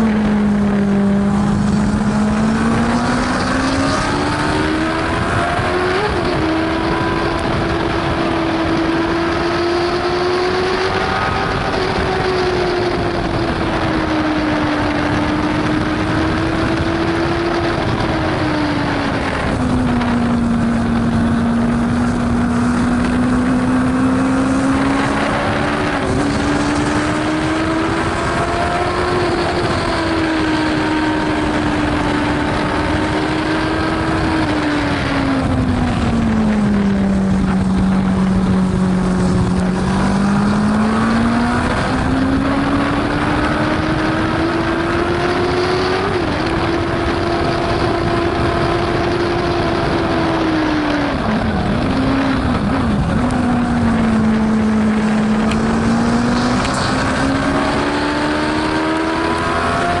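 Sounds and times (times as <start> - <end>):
racing engine at high revs: 0.0 - 60.0
wind and road noise: 0.0 - 60.0.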